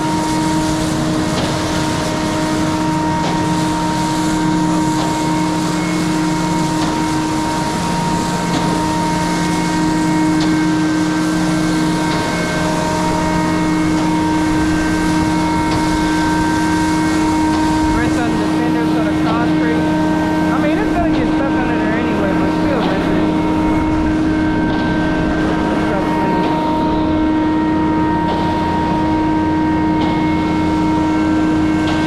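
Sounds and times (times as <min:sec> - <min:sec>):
diesel truck engine running: 0:00.0 - 0:32.0
water hose spraying: 0:00.0 - 0:32.0.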